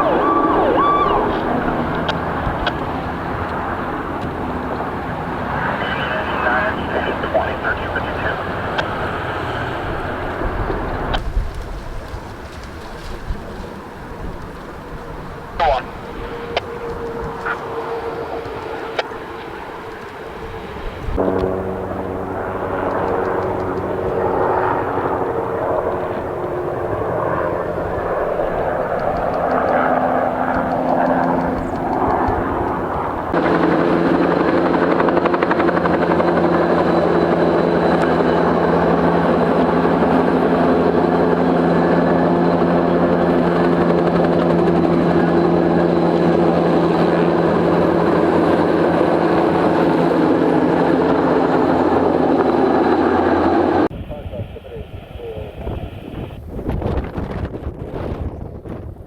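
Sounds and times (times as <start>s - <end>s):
helicopter rotor and engine drone: 0.0s - 59.0s.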